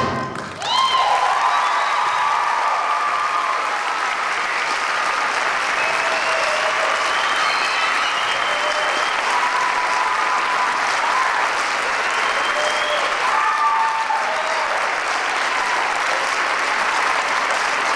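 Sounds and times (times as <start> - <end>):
people whooping: 0.0 - 4.7, 5.6 - 17.0
audience applauding: 0.0 - 17.9.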